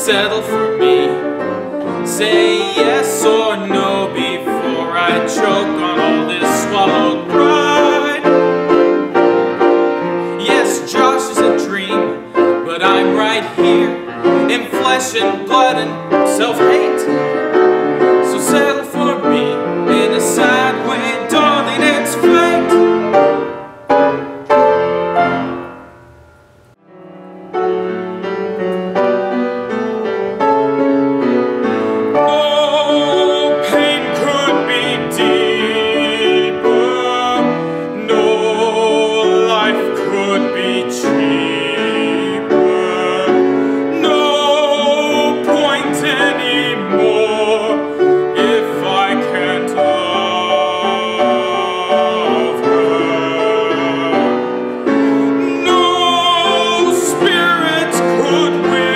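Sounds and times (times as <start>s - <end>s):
man singing with vibrato: 0.0s - 24.4s, 31.2s - 58.9s
piano accompaniment: 0.0s - 58.9s.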